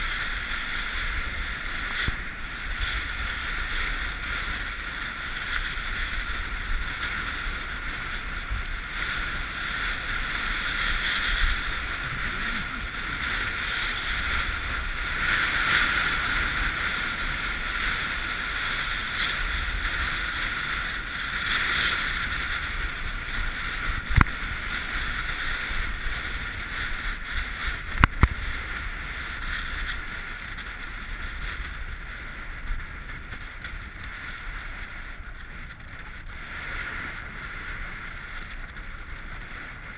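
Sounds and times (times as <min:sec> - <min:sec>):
snowboard scraping on snow: 0:00.0 - 0:39.9
wind rumble on microphone: 0:00.0 - 0:39.9.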